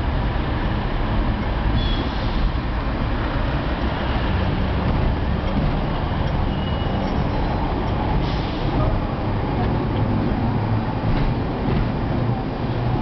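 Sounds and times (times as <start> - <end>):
street traffic: 0.0 - 13.0
tram rumbling: 0.0 - 13.0.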